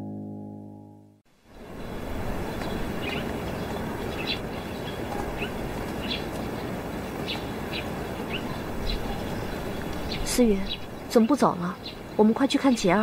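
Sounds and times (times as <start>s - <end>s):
outdoor ambience hiss: 1.2s - 13.0s
small birds chirping: 1.7s - 13.0s.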